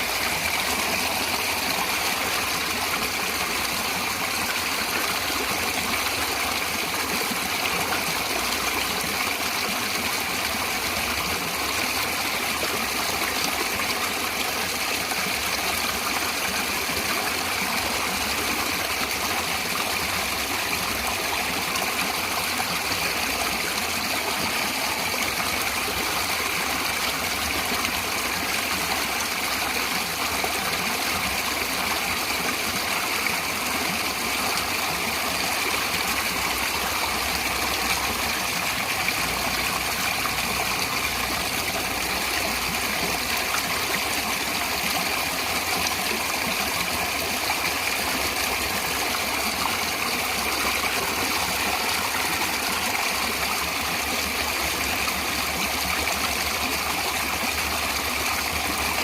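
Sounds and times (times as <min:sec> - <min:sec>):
stream of water flowing: 0:00.0 - 0:59.0.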